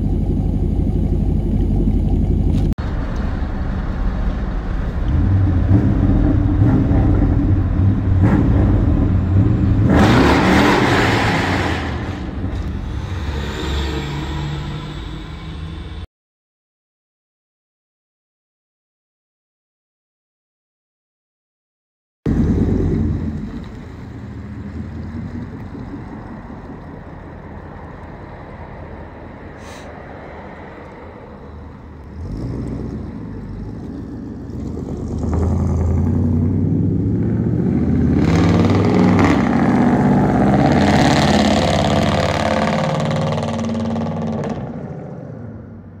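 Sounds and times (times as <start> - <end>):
truck engine exhaust accelerating: 0.0 - 16.1, 22.3 - 29.8, 30.5 - 46.0.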